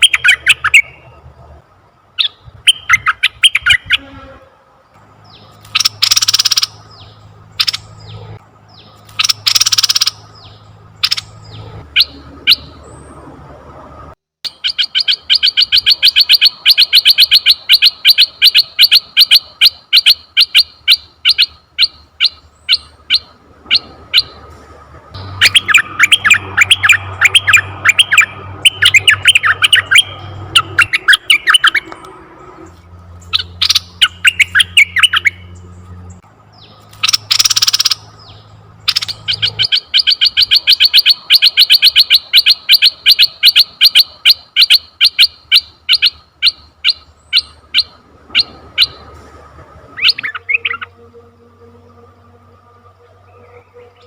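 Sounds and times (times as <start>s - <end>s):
bird calling and chattering: 0.0s - 1.1s, 2.2s - 4.1s, 5.2s - 13.2s, 14.5s - 24.4s, 25.2s - 49.1s, 50.0s - 51.0s.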